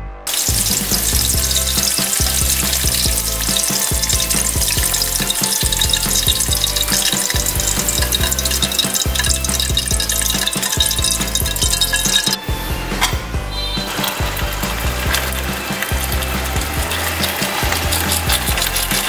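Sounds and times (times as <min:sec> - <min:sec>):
vegetables sizzling in hot oil: 0:00.3 - 0:12.4, 0:13.9 - 0:19.0.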